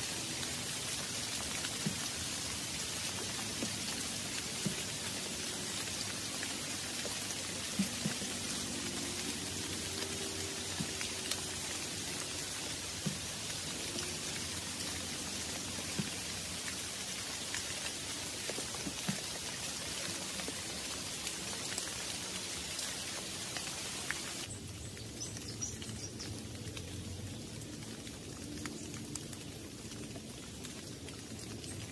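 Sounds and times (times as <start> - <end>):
rain falling on foliage: 0.0 - 31.9.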